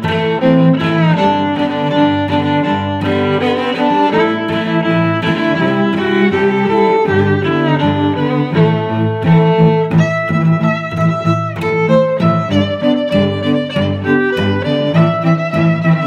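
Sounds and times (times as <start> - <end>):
cello playing sustained notes: 0.0 - 16.0
violin playing sustained notes: 0.0 - 16.0.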